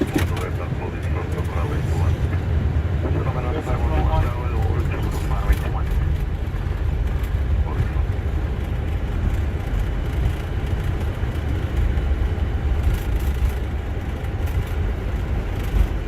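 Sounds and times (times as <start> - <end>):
jet rolling on runway rumble: 0.0 - 16.0.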